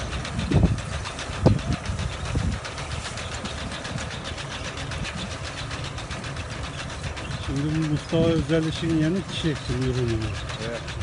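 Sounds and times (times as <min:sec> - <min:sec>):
harvester clatter: 0:00.0 - 0:11.0
tractor engine drone: 0:00.0 - 0:11.0.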